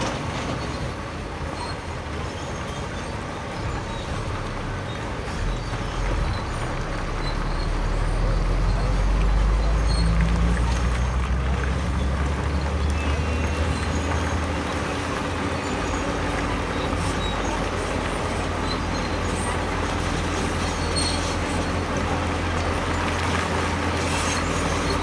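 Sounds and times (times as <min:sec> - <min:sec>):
heavy diesel engine under load: 0:00.0 - 0:25.0.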